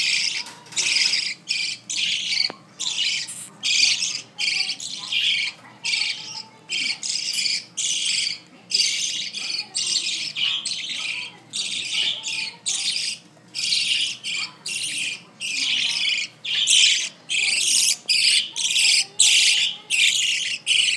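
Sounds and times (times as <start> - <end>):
budgerigars chirping: 0.0 - 20.9.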